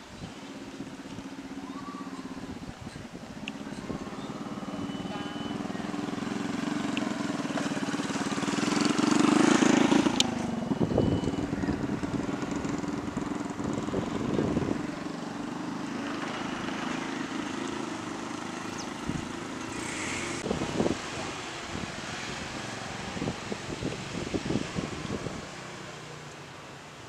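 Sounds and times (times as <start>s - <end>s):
vehicle engines passing: 0.0s - 27.0s.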